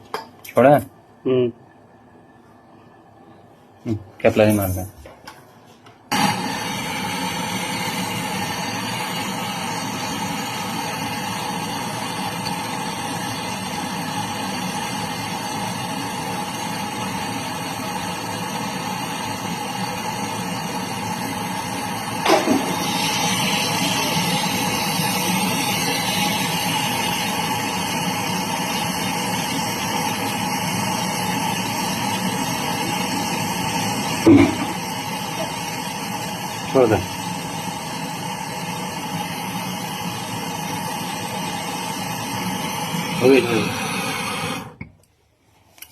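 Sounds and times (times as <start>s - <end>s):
steady mechanical running sound: 6.1s - 44.8s.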